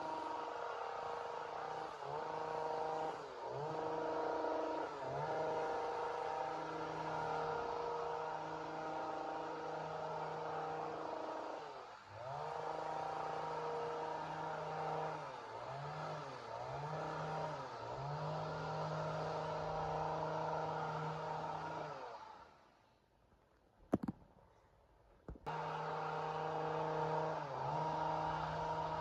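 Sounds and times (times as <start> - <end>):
chainsaw running at high revs: 0.0 - 22.6, 25.5 - 29.0.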